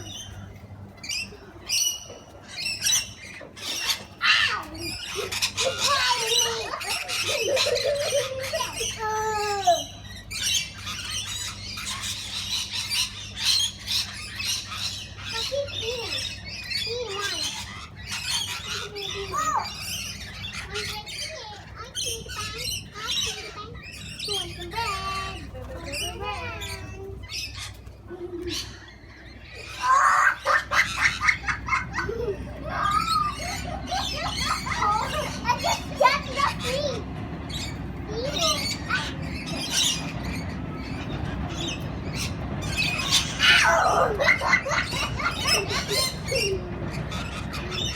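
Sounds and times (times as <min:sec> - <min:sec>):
parrots chattering and squawking: 0:00.0 - 0:47.9.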